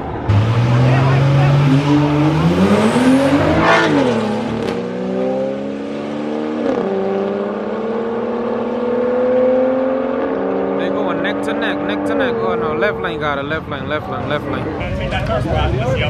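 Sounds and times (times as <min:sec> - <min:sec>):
cars accelerating hard: 0:00.0 - 0:16.0.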